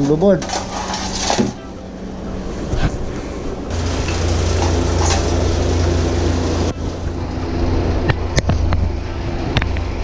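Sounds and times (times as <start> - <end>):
machinery humming: 0.1 - 10.0
constant rushing noise: 0.4 - 10.0.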